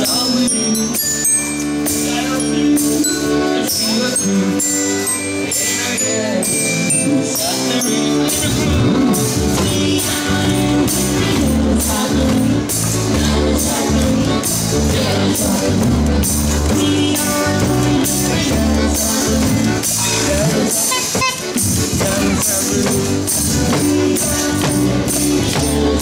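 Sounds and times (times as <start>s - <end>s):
bass drum and cymbal beat: 0.0s - 26.0s
accordion melody: 2.7s - 26.0s.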